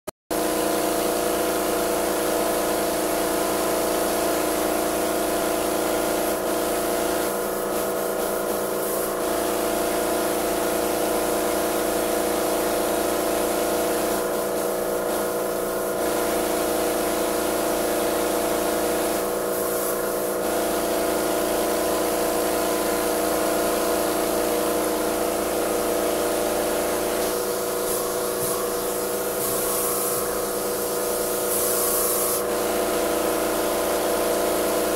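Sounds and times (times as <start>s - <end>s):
paint sprayer mechanical hum: 0.4s - 34.9s
spray gun hissing: 0.5s - 34.9s.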